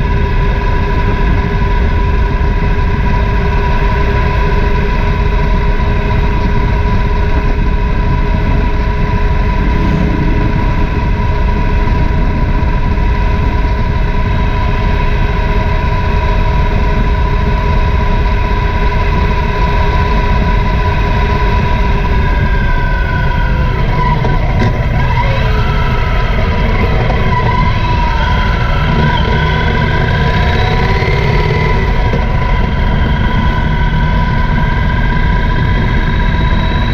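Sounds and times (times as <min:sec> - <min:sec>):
motorcycle engine running: 0:00.0 - 0:36.9
wind and road noise: 0:00.0 - 0:36.9.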